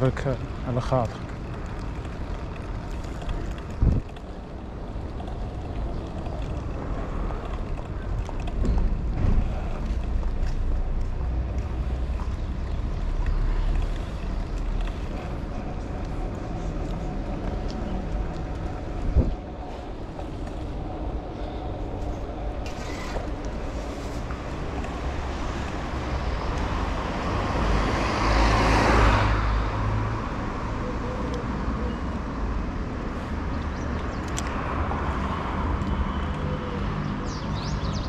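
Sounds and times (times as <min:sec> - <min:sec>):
street traffic rumble: 0:00.0 - 0:38.0.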